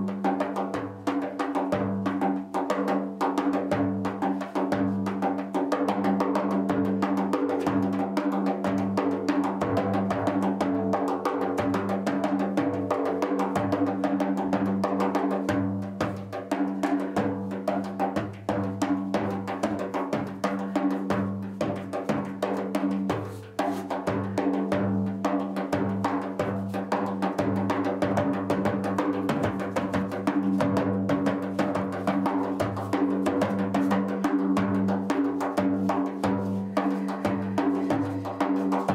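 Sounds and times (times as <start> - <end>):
rapid drum and percussion strokes: 0.0 - 38.9.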